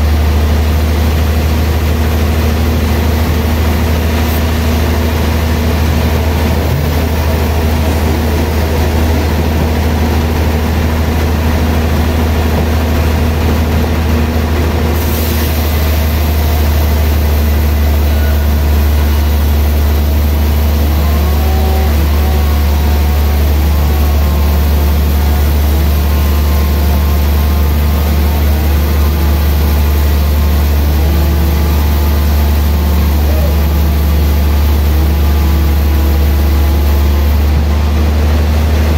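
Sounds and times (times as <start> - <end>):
band sawmill cutting log: 0.0 - 38.9.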